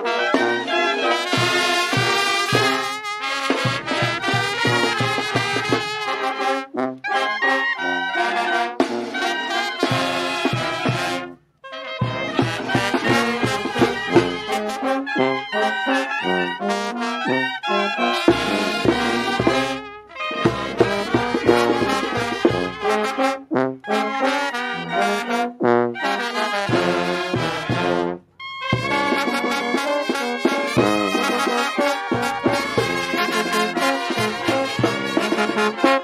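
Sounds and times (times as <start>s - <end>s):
brass band playing: 0.0s - 36.0s
trombones: 0.0s - 36.0s
trumpets: 0.0s - 36.0s.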